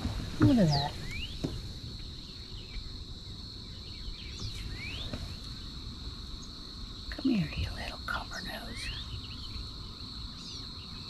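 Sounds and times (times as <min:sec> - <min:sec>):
low background rumble: 0:00.0 - 0:11.0
bird chirping: 0:00.4 - 0:11.0.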